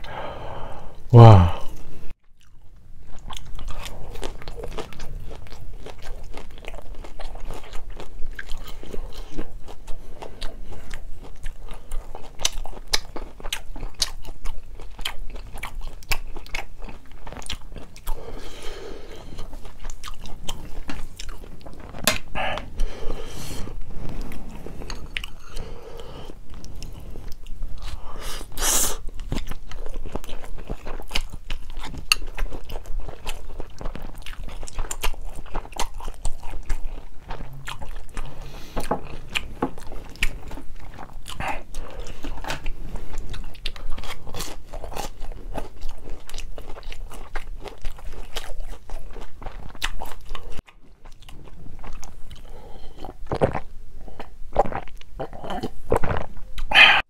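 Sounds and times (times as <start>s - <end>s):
close chewing with wet smacking: 2.2s - 18.2s, 19.4s - 22.4s, 29.0s - 56.7s.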